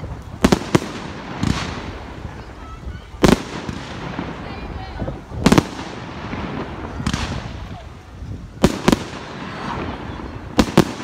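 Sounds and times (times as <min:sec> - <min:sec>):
fireworks bursting with bangs: 0:00.0 - 0:11.0.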